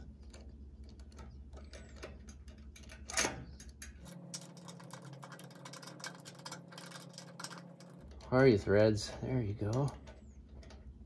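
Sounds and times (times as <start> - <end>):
metal bolts clicking and scraping: 0.0 - 11.0.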